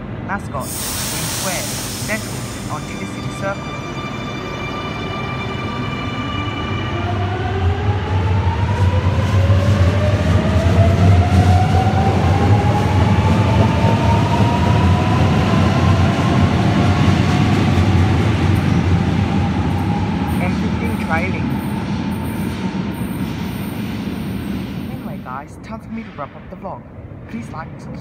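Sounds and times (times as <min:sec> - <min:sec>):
deep train rumble: 0:00.0 - 0:28.0.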